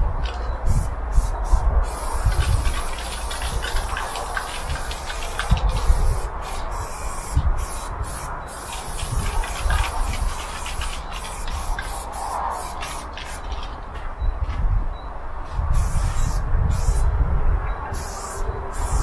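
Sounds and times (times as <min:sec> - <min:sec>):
spray paint can hissing: 0:00.7 - 0:13.7, 0:15.5 - 0:17.1, 0:17.9 - 0:19.0.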